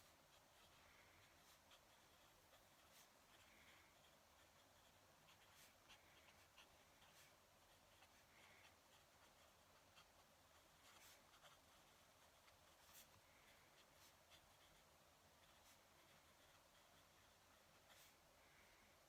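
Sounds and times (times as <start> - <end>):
pen nib scratching on paper: 0.0 - 18.3.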